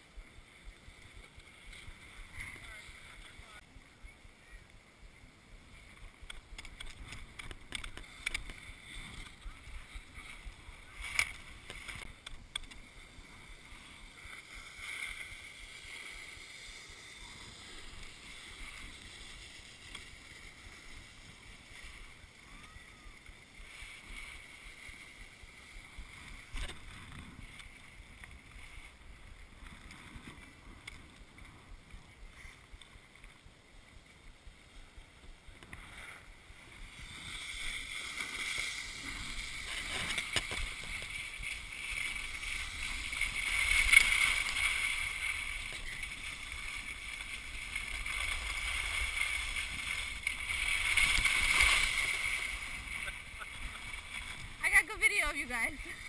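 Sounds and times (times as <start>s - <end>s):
skis scraping over packed snow: 0.0s - 56.0s.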